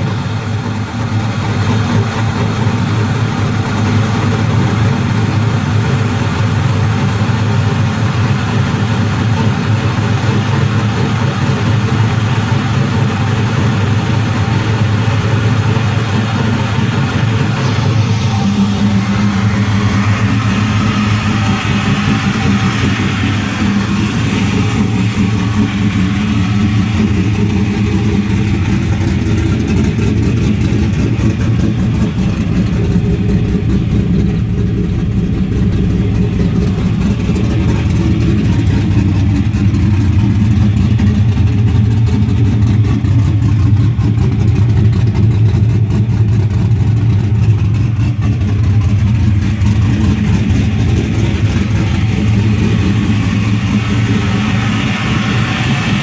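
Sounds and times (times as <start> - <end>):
car engine running steadily: 0.0 - 56.0.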